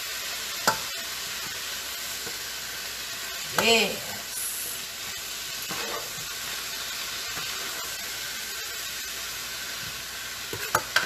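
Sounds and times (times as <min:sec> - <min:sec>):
cabbage sizzling in a pan: 0:00.0 - 0:11.0.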